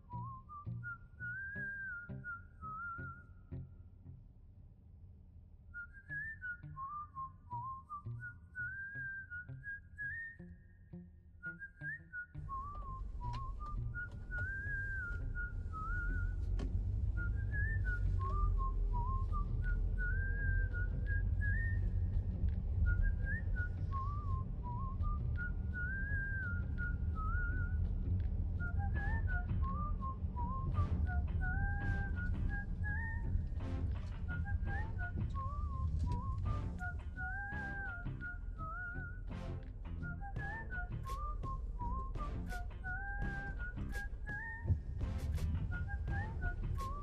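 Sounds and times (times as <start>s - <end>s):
whistled melody: 0.0s - 3.8s, 5.7s - 10.8s, 11.4s - 28.0s, 28.6s - 47.0s.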